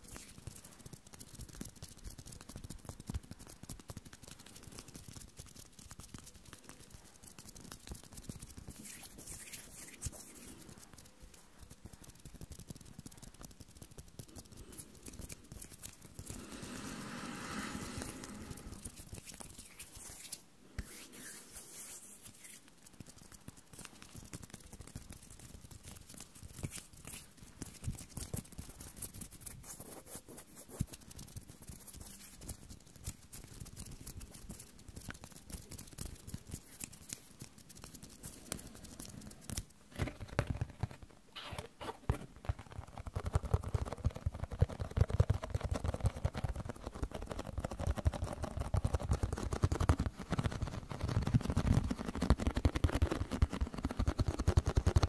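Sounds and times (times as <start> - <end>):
light scratching and tapping clicks: 0.0 - 16.4, 17.9 - 55.0.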